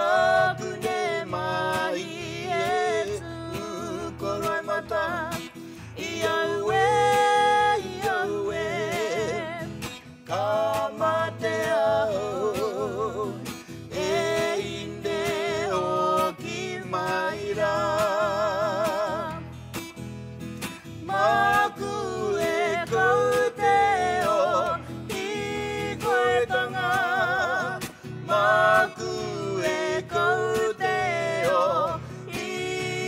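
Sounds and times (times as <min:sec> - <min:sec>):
man and woman singing: 0:00.0 - 0:19.6, 0:20.6 - 0:33.0
strummed acoustic guitar: 0:00.0 - 0:33.0.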